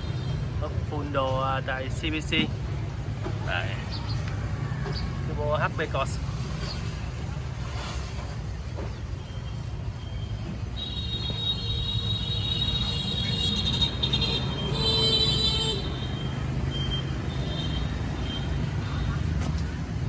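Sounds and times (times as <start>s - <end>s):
road traffic rumbling: 0.0s - 20.0s.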